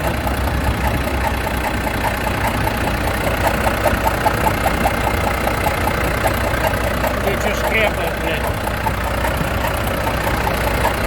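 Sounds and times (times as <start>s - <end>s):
diesel engine idling: 0.0s - 11.0s
rapid knock and clatter: 0.0s - 11.0s.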